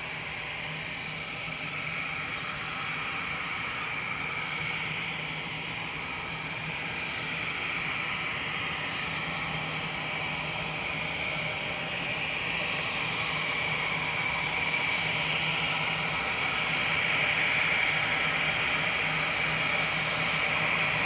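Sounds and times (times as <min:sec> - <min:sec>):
jet engines whining: 0:00.0 - 0:21.0.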